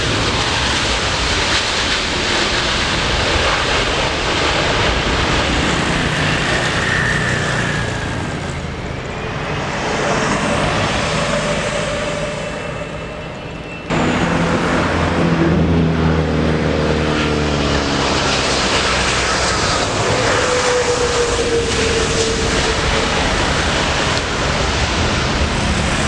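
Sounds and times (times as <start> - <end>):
jet engines rushing with whistling tone: 0.0 - 26.0.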